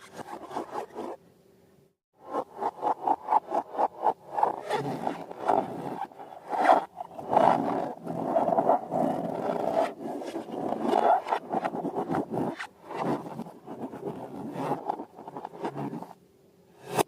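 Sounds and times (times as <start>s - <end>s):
rasping rubbing noise: 0.0s - 1.2s, 2.2s - 16.2s, 16.8s - 17.0s
squeaking scraping strokes: 0.0s - 1.2s, 2.2s - 16.2s.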